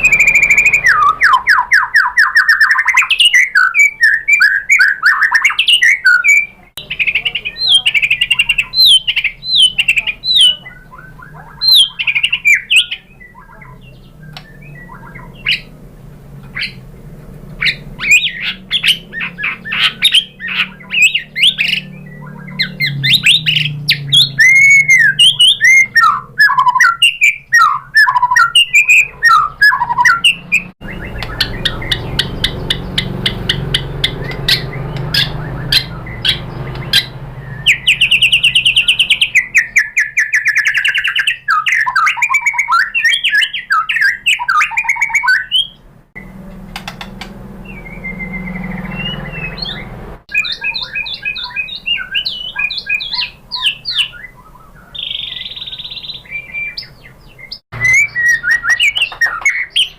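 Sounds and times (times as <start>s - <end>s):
bird singing whistles and trills: 0.0s - 15.8s, 16.5s - 16.8s, 17.6s - 45.8s, 47.6s - 59.9s.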